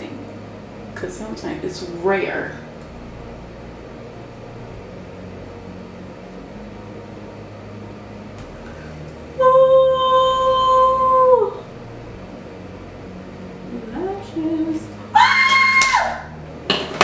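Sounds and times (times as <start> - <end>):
loud steady held tone: 0.0 - 15.5.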